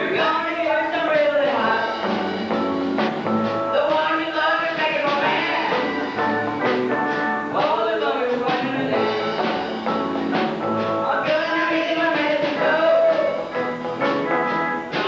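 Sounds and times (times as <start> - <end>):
rock and roll band playing: 0.0 - 15.0.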